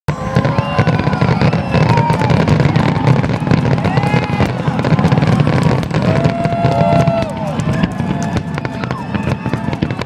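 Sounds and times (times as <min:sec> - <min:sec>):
fireworks bangs and crackles: 0:00.1 - 0:10.0.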